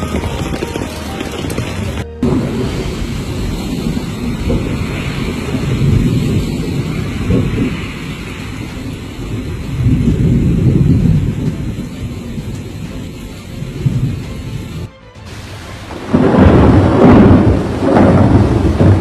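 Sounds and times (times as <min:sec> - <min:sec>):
rain hiss: 0:00.0 - 0:19.0
thunder rumbling: 0:00.0 - 0:19.0.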